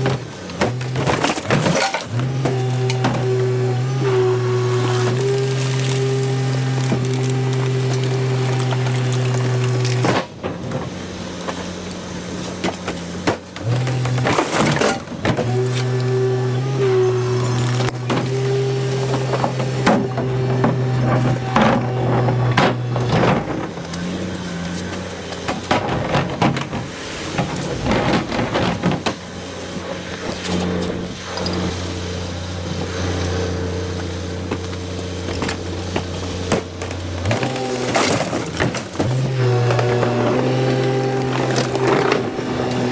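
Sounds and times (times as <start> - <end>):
garbage truck running: 0.0 - 42.9
hydraulic compactor droning: 0.0 - 42.9
rubbish cracking and snapping: 0.0 - 42.9.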